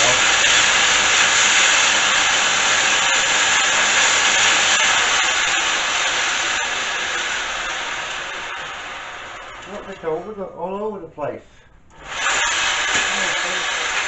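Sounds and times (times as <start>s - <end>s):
belt sander hissing: 0.0s - 10.6s, 11.9s - 14.0s.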